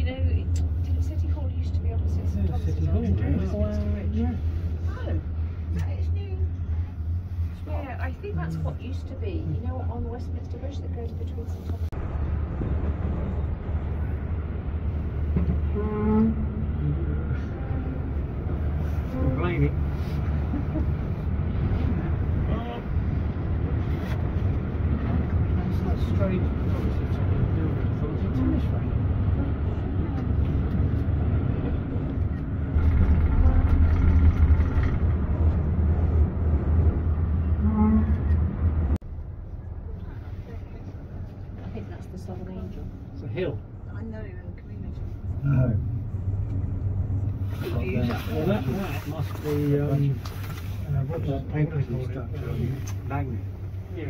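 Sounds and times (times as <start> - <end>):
gondola rumbling along cable: 0.0 - 54.0.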